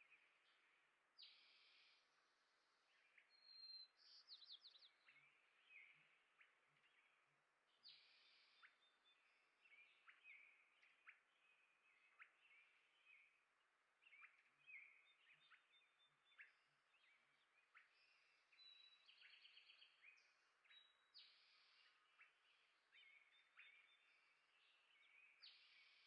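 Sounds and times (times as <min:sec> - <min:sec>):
faint songbirds chirping: 0:00.0 - 0:26.0.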